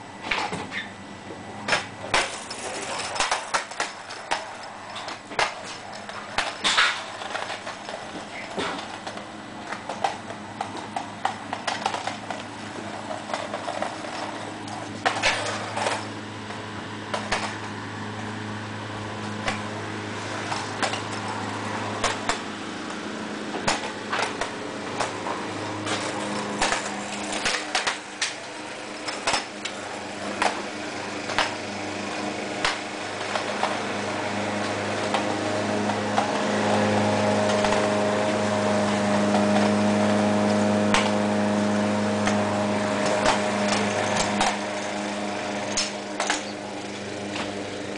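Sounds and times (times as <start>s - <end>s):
mechanical hum: 0.0s - 47.9s
scooter wheels clicking on concrete: 1.6s - 47.9s.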